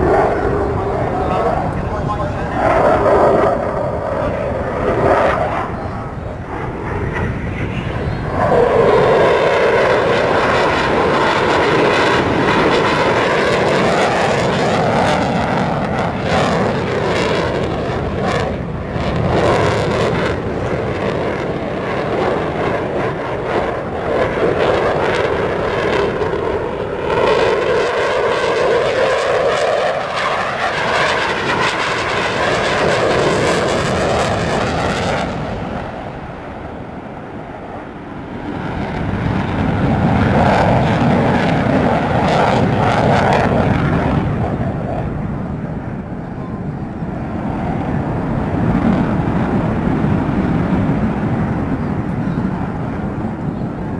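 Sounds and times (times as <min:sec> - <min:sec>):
jet aircraft roar: 0:00.0 - 0:53.9.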